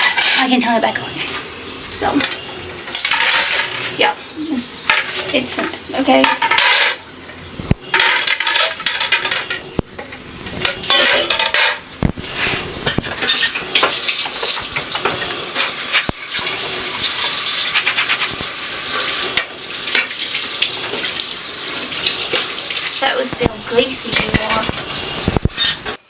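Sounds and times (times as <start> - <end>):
dishes clattering in a sink: 0.0 - 1.4, 2.0 - 4.0, 4.8 - 7.0, 7.8 - 11.8, 12.8 - 26.0
tap water running: 0.0 - 26.0.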